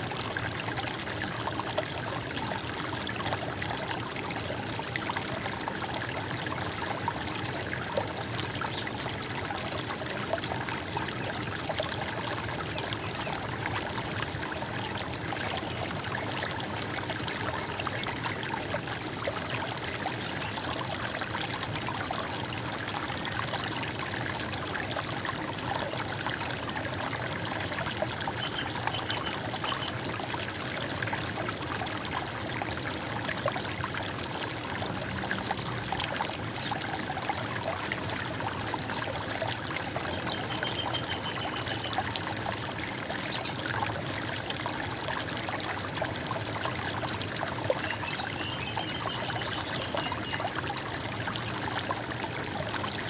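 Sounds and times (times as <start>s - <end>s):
stream water trickling: 0.0s - 53.0s.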